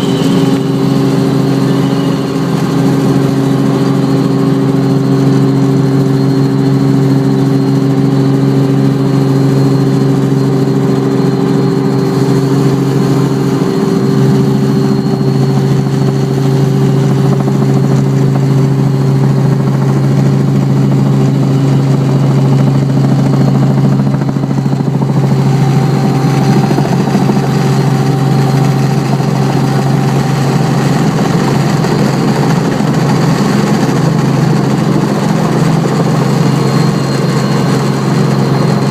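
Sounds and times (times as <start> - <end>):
helicopter hum and drone: 0.0 - 38.9.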